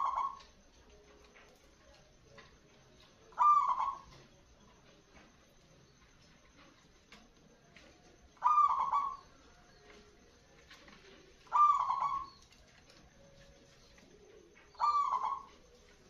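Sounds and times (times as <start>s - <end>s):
dove cooing: 0.0s - 5.0s, 5.8s - 16.0s.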